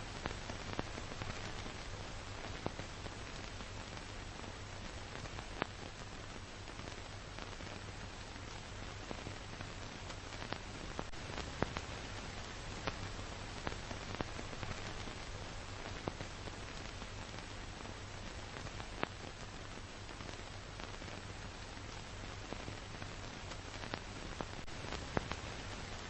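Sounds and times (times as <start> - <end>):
crackles and pops: 0.0 - 26.0
film surface hiss: 0.0 - 26.0.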